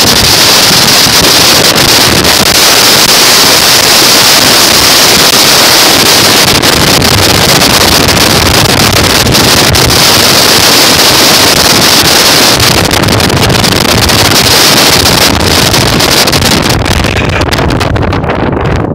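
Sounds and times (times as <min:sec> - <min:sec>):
strong wind on microphone: 0:00.0 - 0:18.9.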